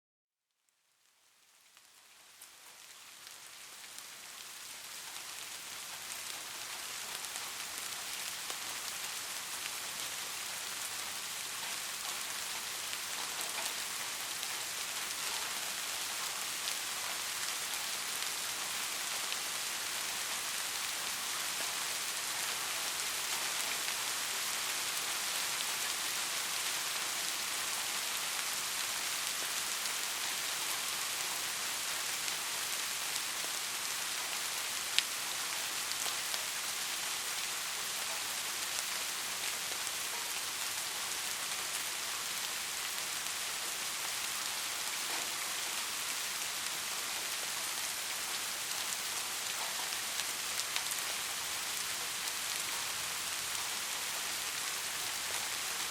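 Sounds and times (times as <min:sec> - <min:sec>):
heavy rain falling: 0:01.5 - 0:55.9.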